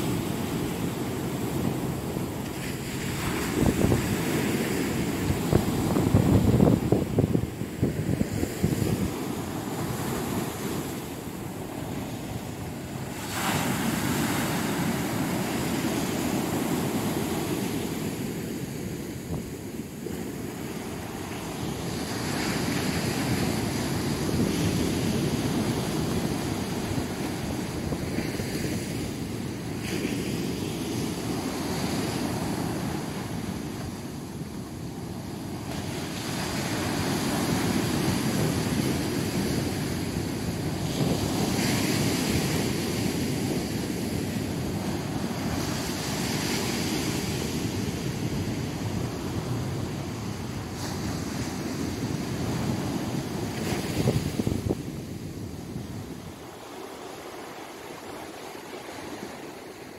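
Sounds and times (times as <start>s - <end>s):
waves breaking on a beach: 0.0s - 59.9s.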